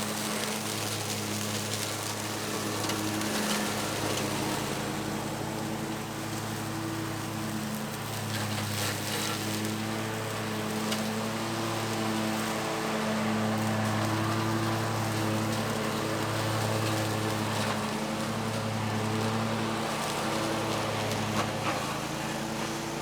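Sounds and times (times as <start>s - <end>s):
mower engine hum: 0.0s - 23.0s.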